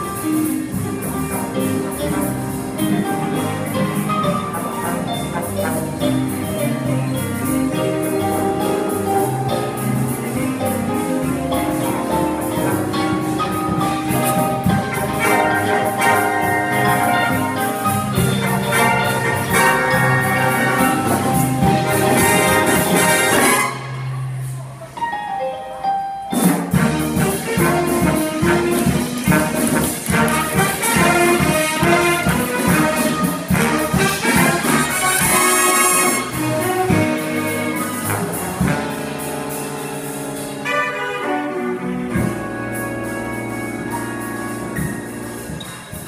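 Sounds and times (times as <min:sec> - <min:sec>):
jazz big band playing: 0:00.0 - 0:46.0.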